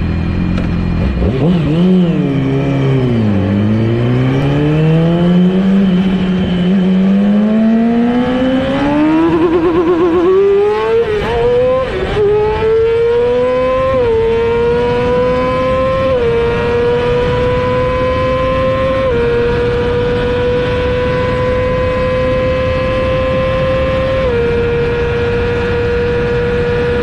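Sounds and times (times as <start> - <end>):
motorcycle engine accelerating hard: 0.0 - 27.0.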